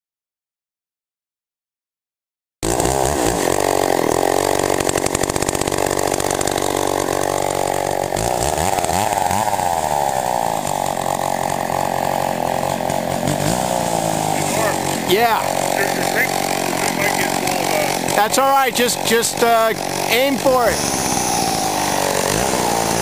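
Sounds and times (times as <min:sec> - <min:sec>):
chainsaw running: 0:02.6 - 0:23.0.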